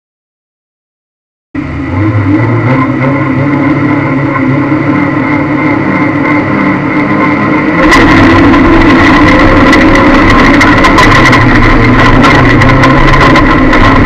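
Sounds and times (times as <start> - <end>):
car engine running: 1.6 - 14.0.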